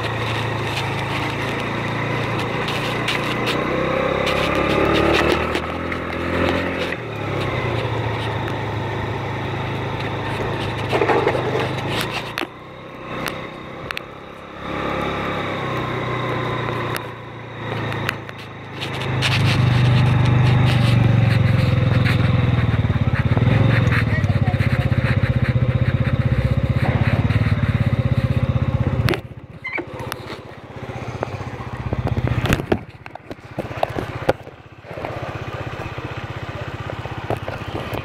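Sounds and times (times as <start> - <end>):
scooter engine running: 0.0 - 38.0.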